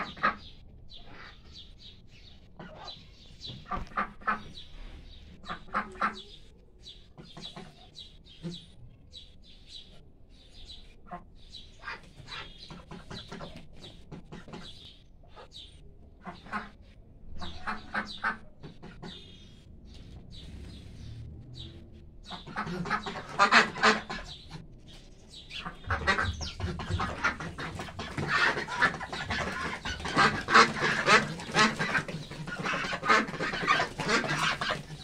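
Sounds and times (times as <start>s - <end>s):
ducks quacking: 0.0s - 1.8s, 2.5s - 6.5s, 7.2s - 8.7s, 11.1s - 19.6s, 21.6s - 35.0s.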